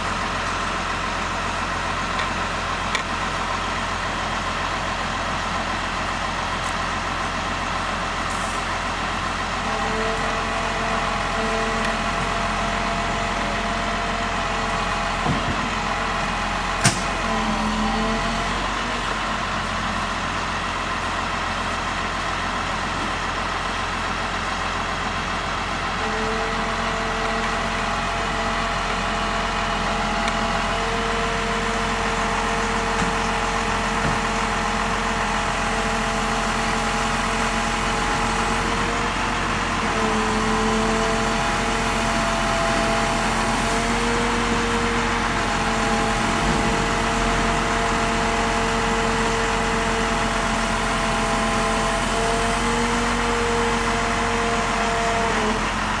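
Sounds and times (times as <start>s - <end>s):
engine humming: 0.0s - 56.0s.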